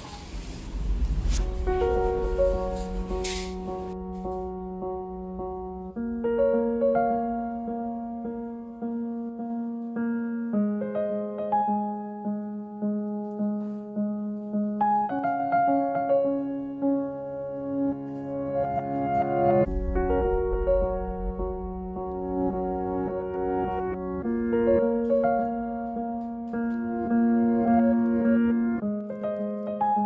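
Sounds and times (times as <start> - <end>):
soft piano chords: 0.0 - 30.0.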